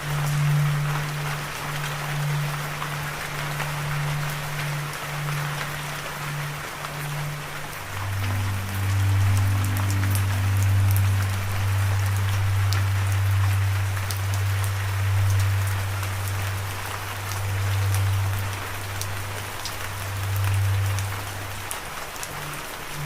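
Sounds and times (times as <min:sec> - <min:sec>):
low droning hum: 0:00.0 - 0:23.0
steady rain: 0:00.0 - 0:23.0.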